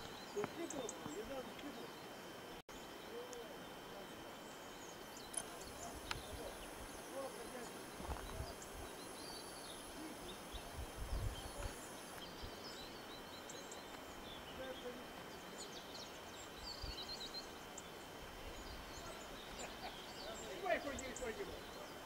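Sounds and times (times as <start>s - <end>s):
faint open-air hiss: 0.0s - 22.0s.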